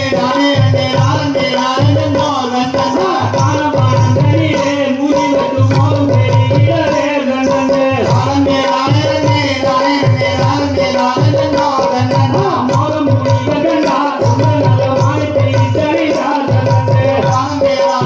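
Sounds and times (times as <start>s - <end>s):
hand drum beats: 0.0s - 18.0s.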